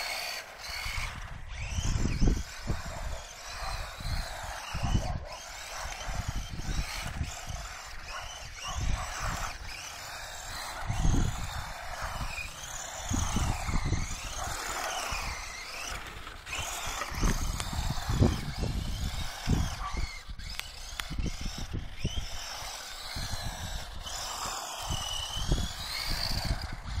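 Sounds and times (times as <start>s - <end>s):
rc car motor and gears whining: 0.0s - 27.0s.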